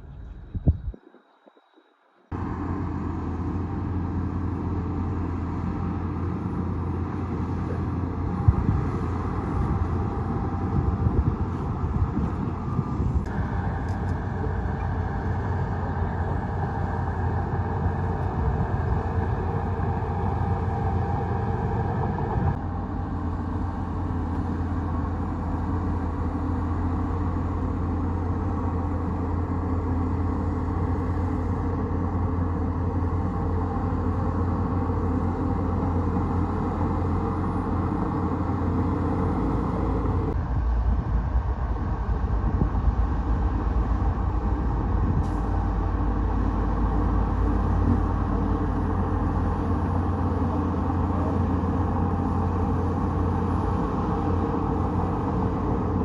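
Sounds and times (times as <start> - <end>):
bulldozer diesel engine running: 2.3 - 56.0.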